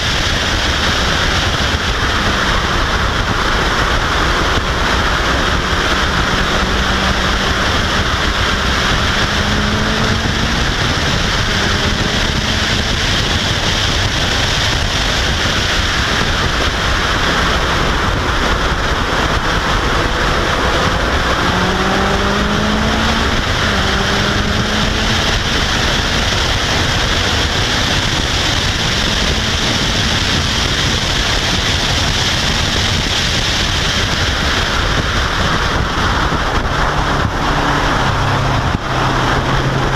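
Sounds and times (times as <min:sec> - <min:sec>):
faint car engine accelerating: 0:00.0 - 0:39.9
wind roar over microphone: 0:00.0 - 0:39.9.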